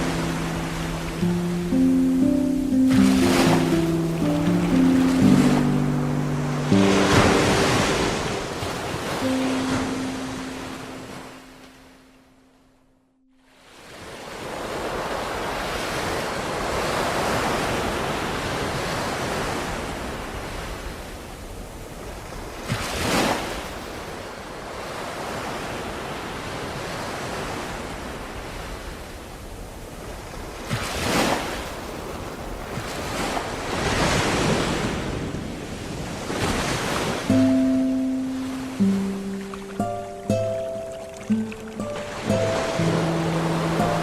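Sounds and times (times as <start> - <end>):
waves breaking: 0.0 - 12.4, 13.6 - 44.0
ocean waves washing ashore: 0.0 - 12.8, 13.4 - 44.0.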